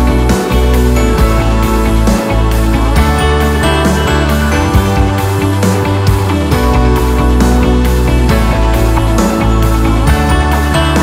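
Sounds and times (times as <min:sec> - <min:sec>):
background music over a steady beat: 0:00.0 - 0:11.0.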